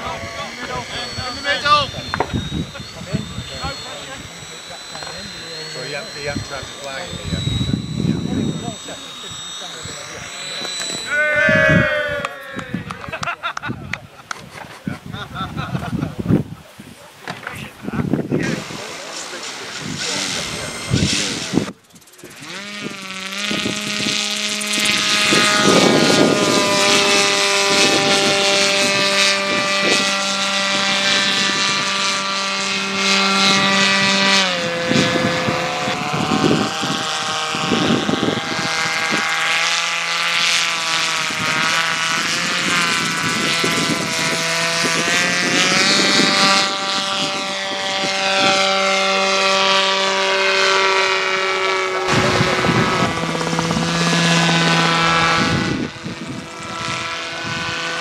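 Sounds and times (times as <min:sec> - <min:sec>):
model aircraft propeller engine drone: 0:00.0 - 0:58.0.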